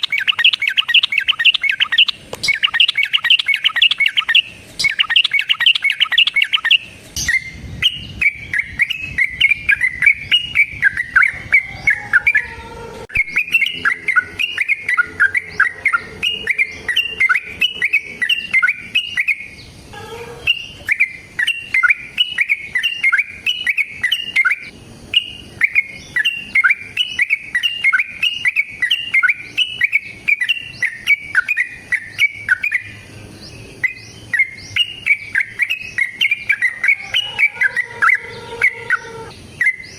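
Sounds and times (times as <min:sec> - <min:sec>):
bulbul singing fast chirps: 0:00.0 - 0:19.8, 0:20.5 - 0:39.9.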